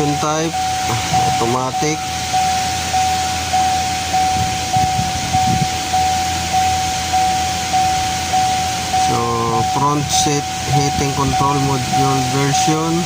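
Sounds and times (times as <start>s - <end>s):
electronic warning chime beeping: 0.0s - 13.0s.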